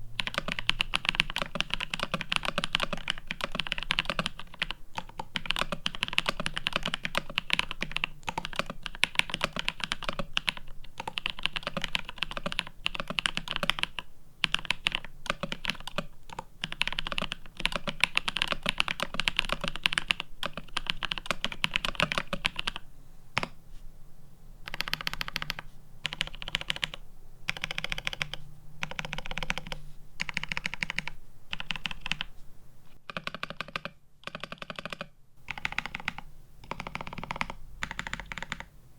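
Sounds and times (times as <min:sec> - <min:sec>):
mechanical keyboard typing: 0:00.2 - 0:22.8, 0:24.6 - 0:32.3, 0:33.1 - 0:38.7.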